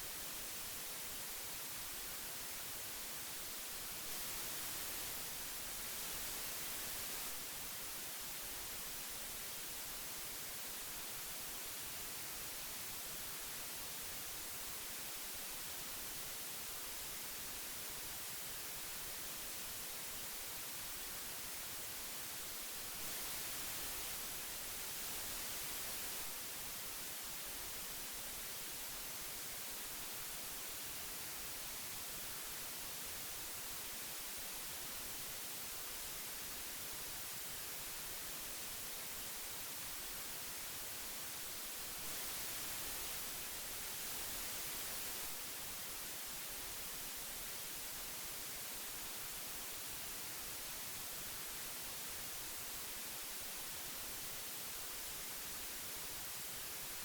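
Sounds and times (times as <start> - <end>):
magnetic tape hiss: 0.0 - 57.0.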